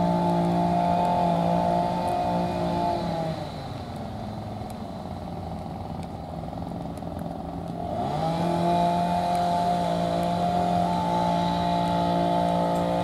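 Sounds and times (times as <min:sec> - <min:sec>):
engine running at high speed: 0:00.0 - 0:13.0.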